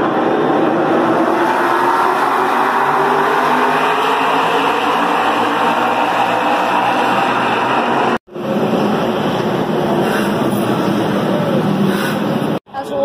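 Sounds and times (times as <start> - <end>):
race car engines droning: 0.0 - 12.6.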